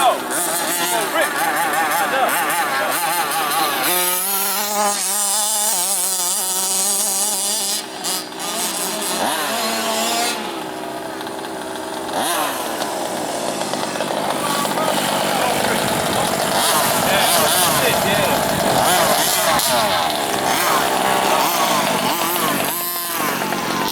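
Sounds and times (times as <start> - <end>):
small two-stroke engine revving: 0.0 - 23.9.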